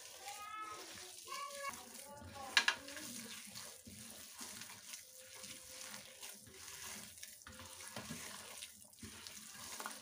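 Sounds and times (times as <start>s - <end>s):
hand kneading wet mixture: 0.0s - 10.0s.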